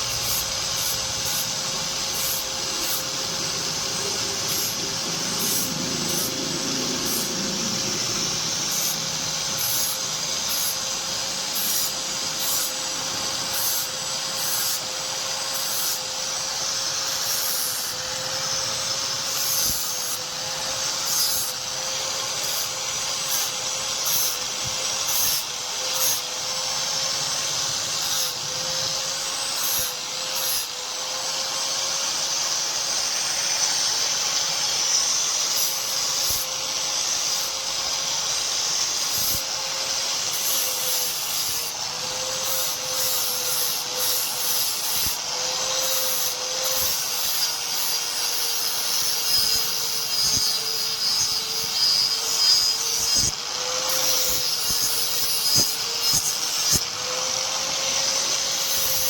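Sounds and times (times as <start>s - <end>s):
grinder whining and rasping: 0.0s - 59.0s.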